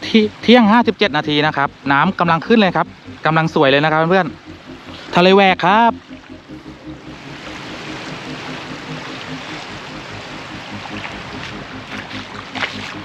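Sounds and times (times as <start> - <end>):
low even throb: 0.0 - 13.0
sea water lapping: 0.0 - 13.0.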